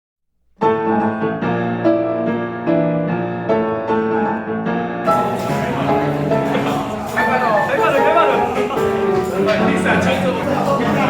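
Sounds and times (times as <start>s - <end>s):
piano music: 0.5s - 11.0s.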